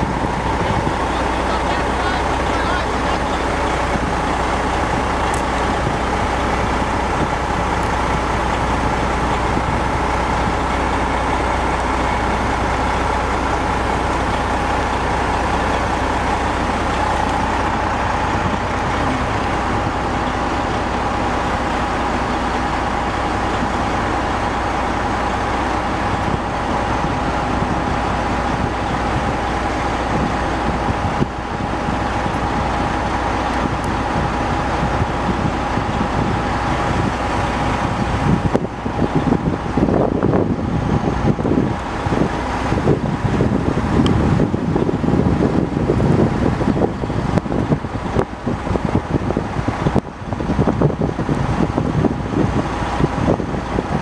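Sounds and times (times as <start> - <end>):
heavy diesel engines running: 0.0 - 54.0
steady whine: 0.0 - 54.0.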